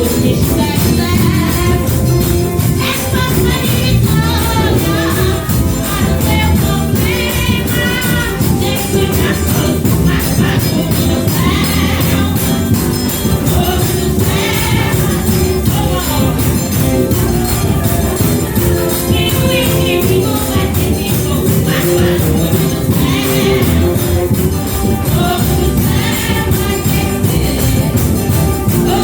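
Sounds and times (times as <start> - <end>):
band playing: 0.0 - 29.0
people singing gospel: 0.0 - 29.0
tambourine jingling: 0.0 - 29.0.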